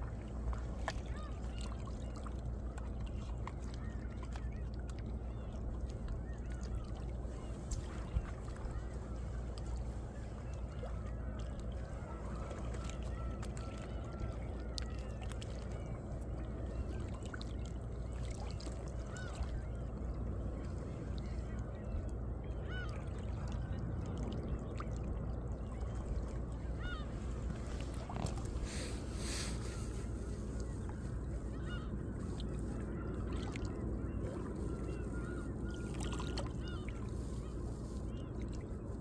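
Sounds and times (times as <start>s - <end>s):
seawater lapping between rocks: 0.0s - 39.0s
water gurgles and drips: 0.0s - 39.0s.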